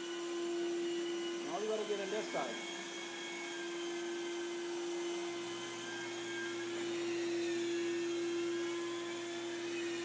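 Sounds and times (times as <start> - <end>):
carpet extraction vacuum whine: 0.0 - 10.0.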